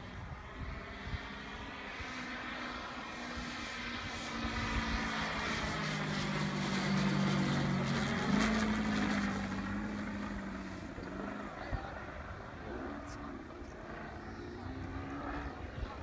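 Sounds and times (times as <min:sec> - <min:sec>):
model airplane engine flying past: 0:00.0 - 0:16.0.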